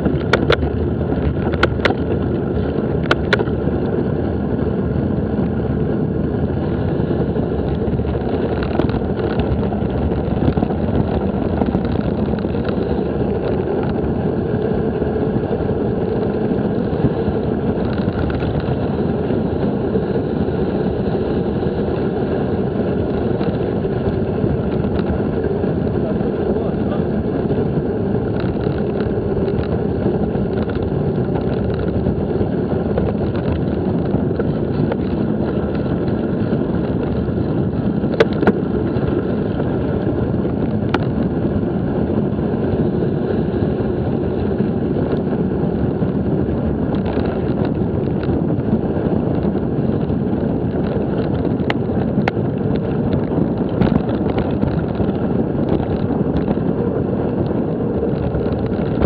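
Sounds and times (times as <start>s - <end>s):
tyre rumble: 0.0s - 59.0s
wind: 0.0s - 59.0s.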